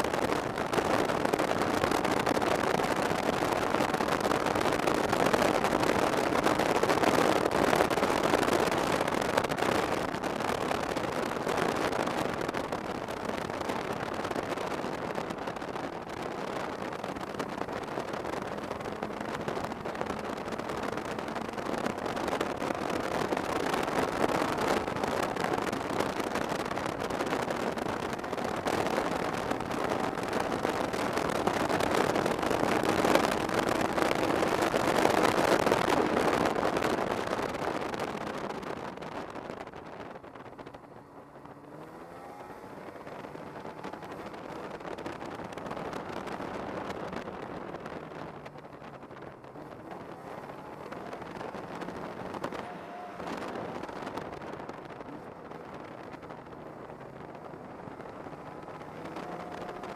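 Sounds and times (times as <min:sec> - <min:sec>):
snowmobile engine and track: 0:00.0 - 0:59.9
wind on microphone: 0:00.0 - 0:59.9.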